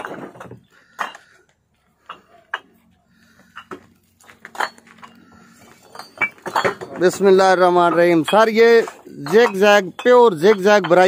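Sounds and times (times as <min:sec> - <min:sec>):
bricks clinking together: 0:00.0 - 0:11.0.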